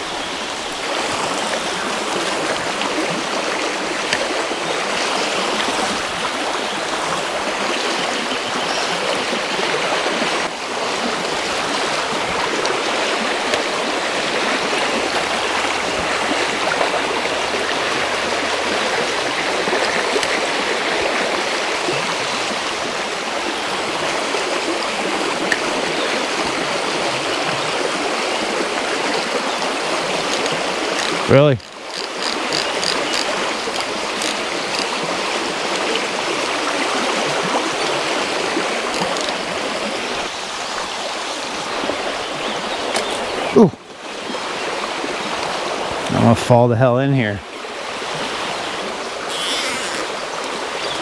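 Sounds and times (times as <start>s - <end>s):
creek water running: 0.0s - 51.0s.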